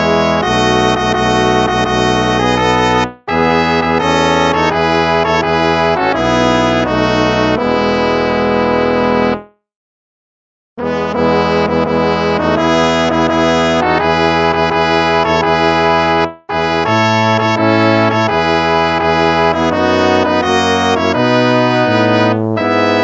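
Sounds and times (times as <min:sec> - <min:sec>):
instrumental hymn music: 0:00.0 - 0:09.5, 0:10.8 - 0:23.0.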